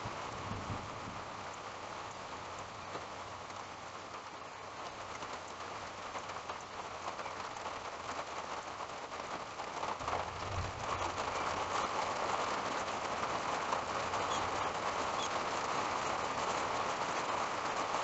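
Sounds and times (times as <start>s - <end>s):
rain patter: 0.0s - 18.0s.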